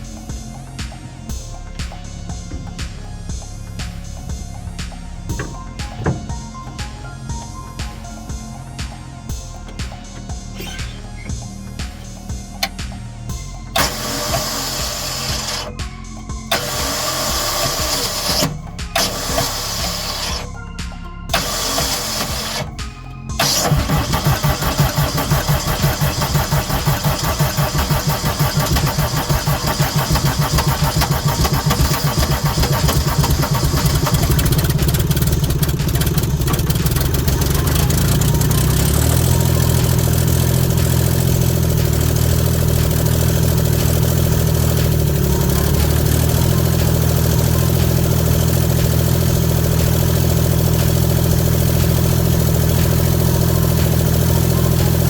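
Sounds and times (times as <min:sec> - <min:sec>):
diesel engine chugging and idling: 0:00.0 - 0:55.0.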